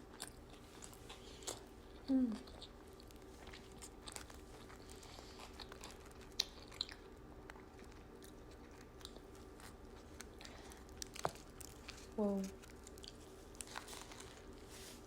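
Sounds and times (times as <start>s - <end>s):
close chewing with mouth clicks: 0.0s - 14.7s
bread crunching: 0.0s - 15.0s.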